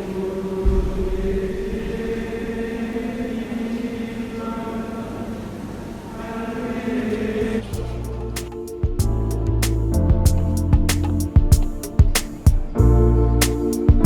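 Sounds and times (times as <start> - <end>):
choir-like voices holding notes: 0.0 - 14.0.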